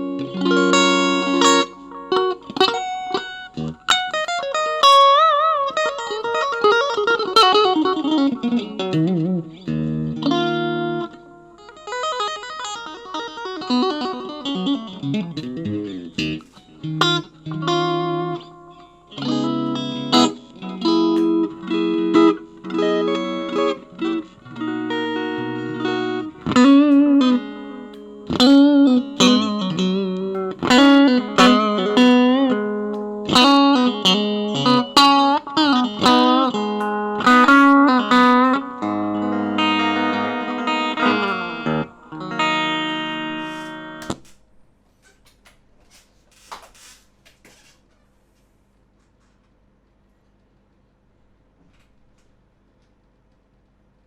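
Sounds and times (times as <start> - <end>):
solo electric guitar: 0.0 - 44.4.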